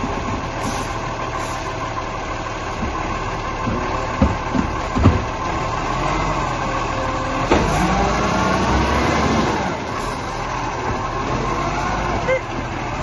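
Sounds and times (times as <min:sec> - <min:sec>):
garbage truck running: 0:00.0 - 0:13.0.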